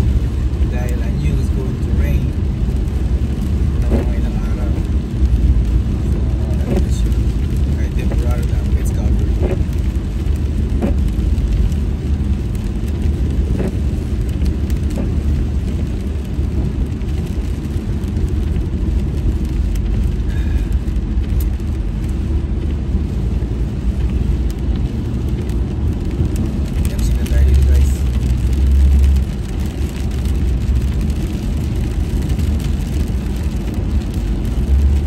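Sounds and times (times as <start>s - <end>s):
car tyres and engine rumble: 0.0s - 35.0s.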